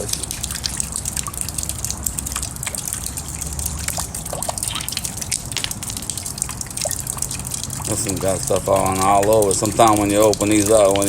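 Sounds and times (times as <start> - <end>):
rain dripping and trickling: 0.0 - 11.0.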